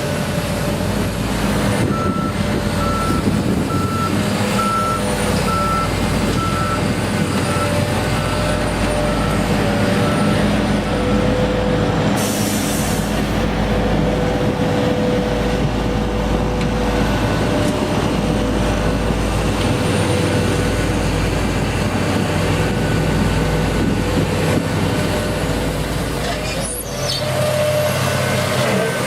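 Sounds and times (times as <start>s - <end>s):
heavy machine engine running: 0.0s - 29.0s.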